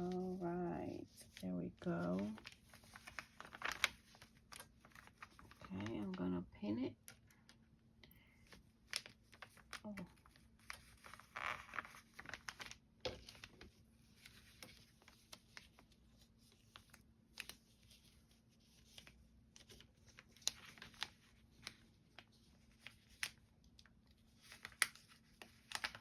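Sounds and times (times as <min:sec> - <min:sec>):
paper and fabric rustling: 0:00.0 - 0:06.2, 0:08.5 - 0:23.5, 0:24.2 - 0:26.0.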